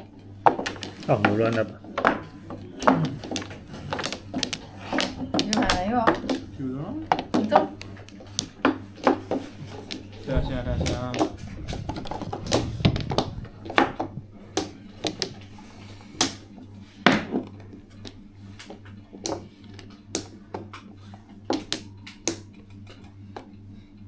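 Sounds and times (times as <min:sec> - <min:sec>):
mahjong tiles clacking: 0:00.0 - 0:23.2
faint low hum: 0:00.0 - 0:24.0.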